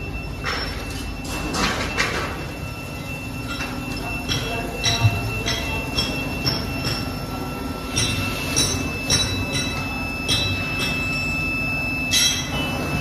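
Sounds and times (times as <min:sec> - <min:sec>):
furnace humming and whining: 0:00.0 - 0:13.0.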